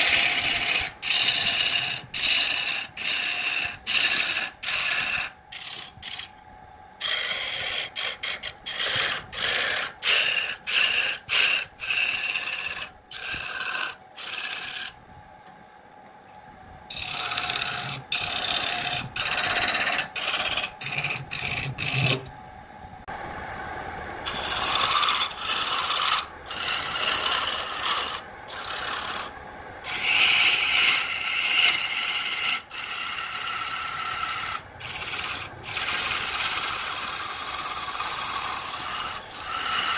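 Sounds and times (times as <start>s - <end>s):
gouge cutting wood on a lathe: 0.0s - 6.3s, 7.0s - 15.0s, 16.9s - 22.3s, 24.2s - 39.9s
faint steady hum: 0.0s - 39.9s.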